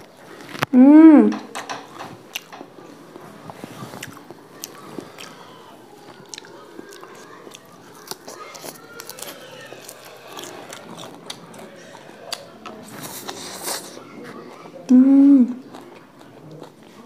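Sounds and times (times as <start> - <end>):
chewing noodles: 2.3 - 14.9, 15.5 - 17.0.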